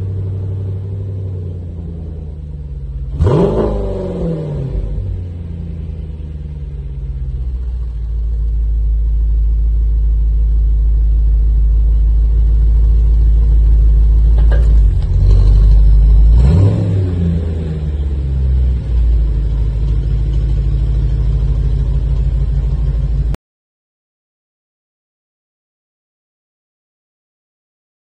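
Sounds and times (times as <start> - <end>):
car engine exhaust rumble: 0.0 - 23.4
car engine revving: 0.0 - 23.4.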